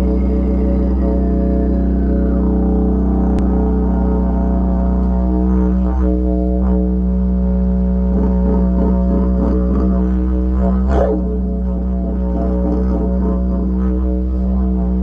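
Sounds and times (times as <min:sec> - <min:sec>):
didgeridoo low drone: 0:00.0 - 0:15.0.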